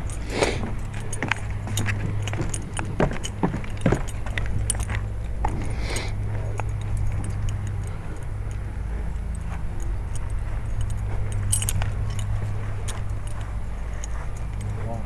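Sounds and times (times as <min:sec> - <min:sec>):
light metallic clinks: 0:00.0 - 0:15.0
low mechanical hum: 0:00.0 - 0:15.0.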